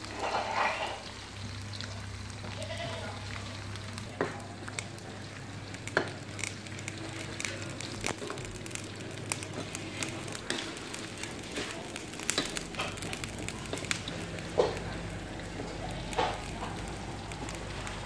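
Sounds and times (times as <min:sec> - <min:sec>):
crickets frying in hot oil: 0:00.0 - 0:18.0.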